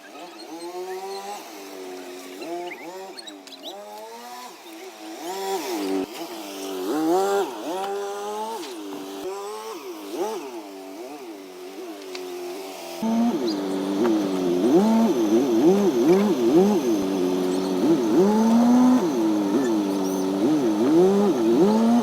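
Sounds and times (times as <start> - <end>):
engine revving: 0.2 - 11.1, 13.0 - 22.0.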